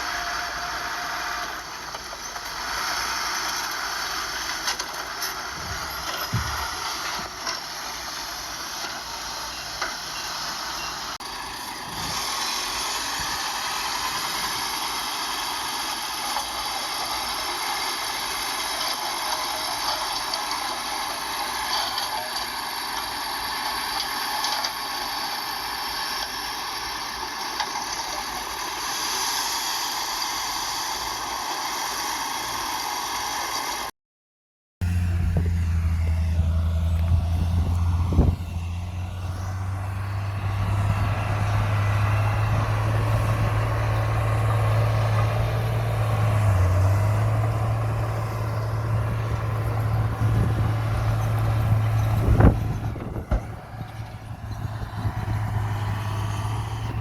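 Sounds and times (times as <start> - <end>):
diesel engine drone: 0.0 - 33.9, 34.8 - 57.0
mechanical clatter and whine: 0.0 - 33.9, 34.8 - 57.0.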